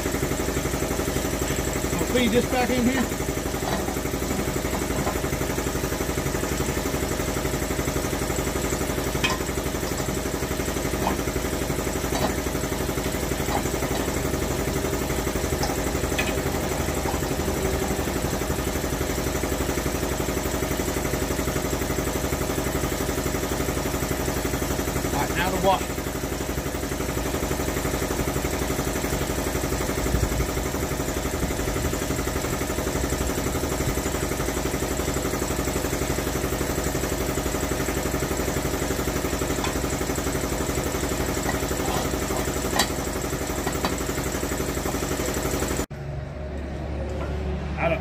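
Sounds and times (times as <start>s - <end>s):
engine idling: 0.0s - 48.0s.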